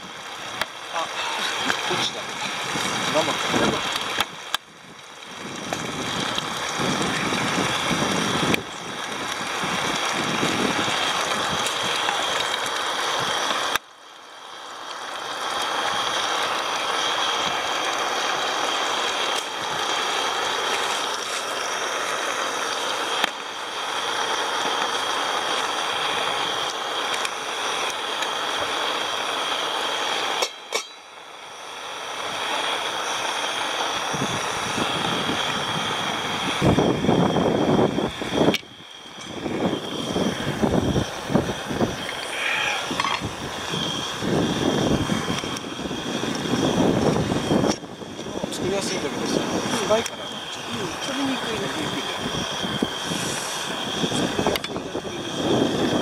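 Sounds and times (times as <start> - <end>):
gas stove burner hissing: 0.0 - 56.0.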